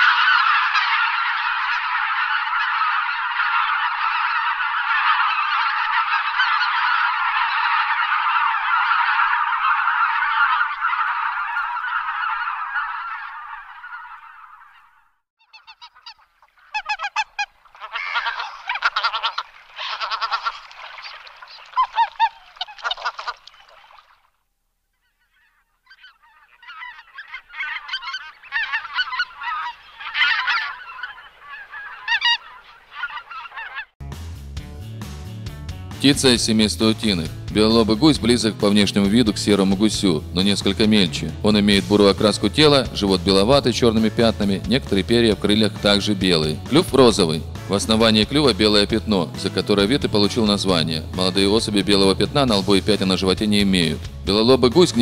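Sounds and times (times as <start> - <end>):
geese honking: 0.0 - 24.2, 24.9 - 34.0, 36.0 - 55.0.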